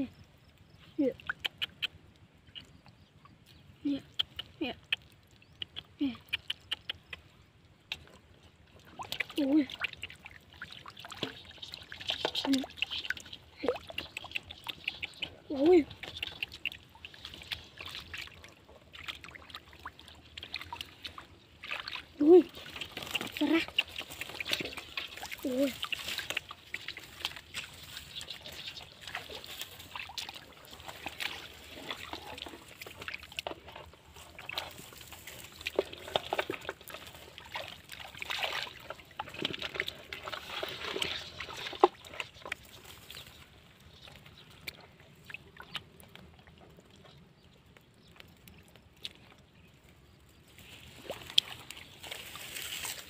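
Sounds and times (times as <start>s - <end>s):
water dripping: 1.0s - 49.9s
water sloshing and splashing: 6.8s - 53.0s.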